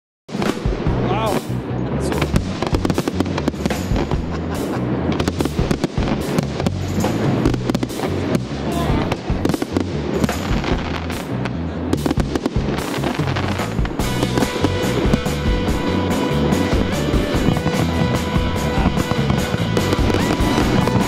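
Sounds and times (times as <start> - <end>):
music: 0.3 - 21.0
firework shells bursting: 2.2 - 21.0.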